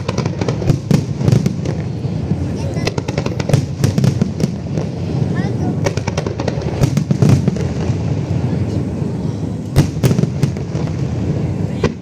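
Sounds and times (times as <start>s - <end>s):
fireworks bangs and crackles: 0.0s - 12.0s
low rumble of bursts: 0.0s - 12.0s.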